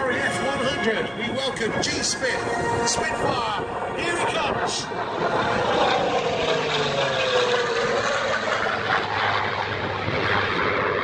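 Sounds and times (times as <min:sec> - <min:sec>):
model plane engine flying past: 0:00.0 - 0:11.0.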